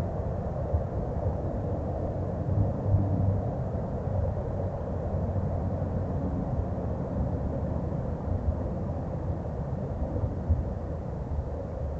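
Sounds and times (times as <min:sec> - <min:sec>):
low rumbling background noise: 0:00.0 - 0:11.9.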